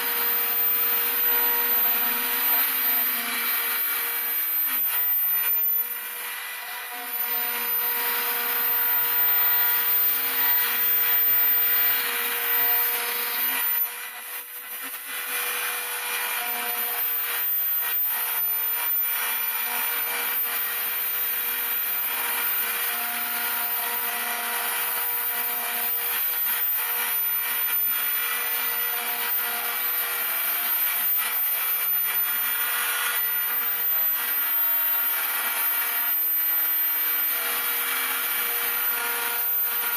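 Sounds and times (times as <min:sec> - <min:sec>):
cutter rasping in material: 0:00.0 - 0:39.9.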